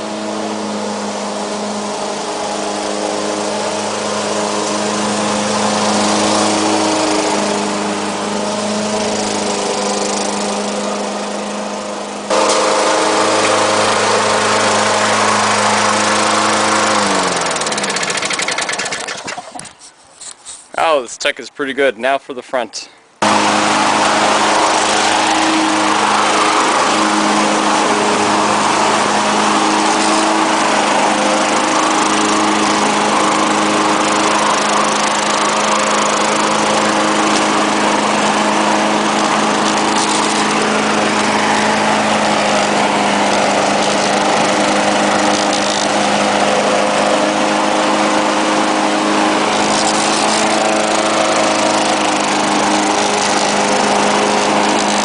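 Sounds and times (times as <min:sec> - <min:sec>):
lawn mower engine running: 0:00.0 - 0:20.8, 0:23.2 - 0:55.0.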